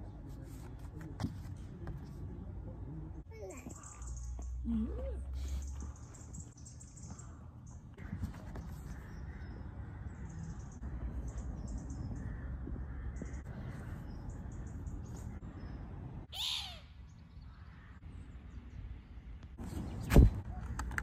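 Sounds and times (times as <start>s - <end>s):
birds chirping faintly: 1.7s - 21.0s.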